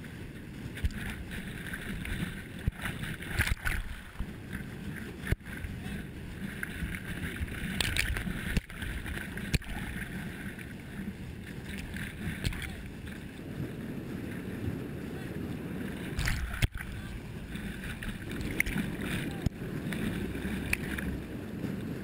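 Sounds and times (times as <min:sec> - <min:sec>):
whitewater rushing: 0:00.8 - 0:13.2, 0:15.2 - 0:21.2.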